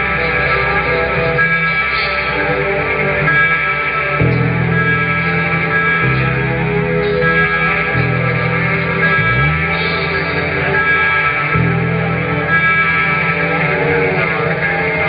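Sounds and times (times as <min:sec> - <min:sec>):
electric guitar chords: 0:00.0 - 0:15.0
sliding bass line: 0:00.0 - 0:15.0.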